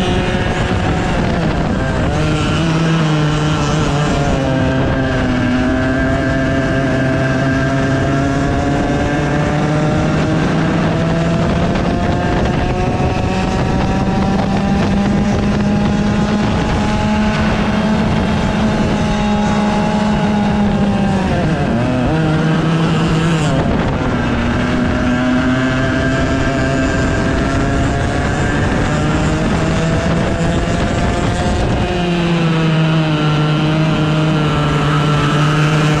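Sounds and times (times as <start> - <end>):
kart engine running hard: 0.0 - 36.0.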